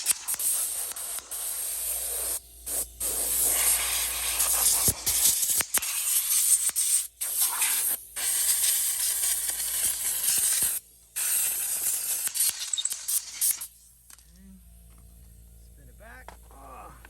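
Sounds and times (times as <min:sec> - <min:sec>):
air blow gun hissing: 0:00.0 - 0:13.8.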